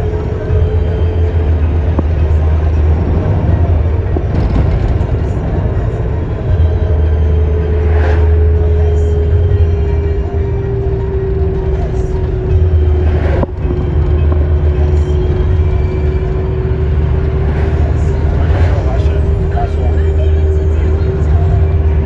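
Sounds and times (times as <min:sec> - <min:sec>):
steady hum dropping in pitch: 0:00.0 - 0:22.0
vehicle rumble and road noise: 0:00.0 - 0:22.0.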